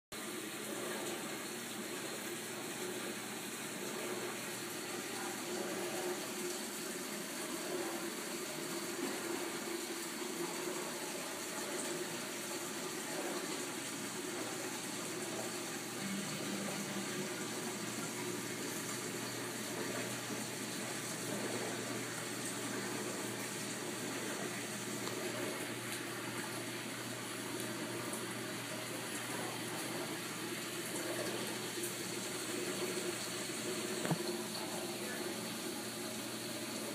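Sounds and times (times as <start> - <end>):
water splashing into aquarium: 0.3 - 36.9.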